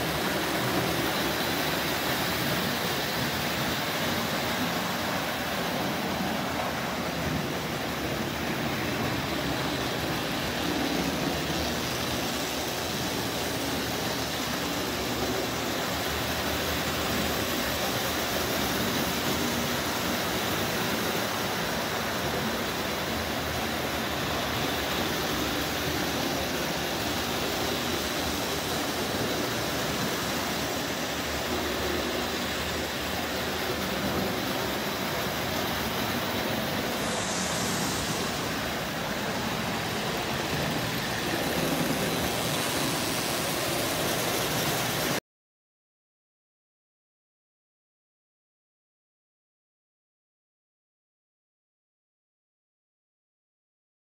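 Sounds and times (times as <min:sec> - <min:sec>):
toy train running on rails: 0:00.0 - 0:45.2.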